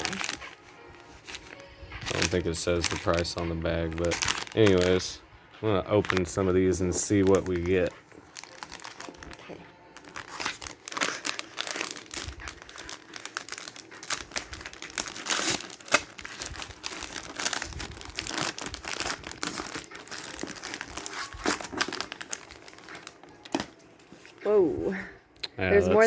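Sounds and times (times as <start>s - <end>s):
plastic packaging crinkling: 0.0s - 24.4s.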